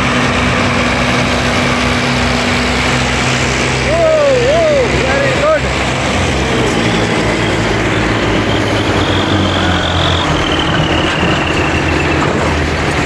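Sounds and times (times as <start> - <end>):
diesel tractor engines under load: 0.0 - 13.0.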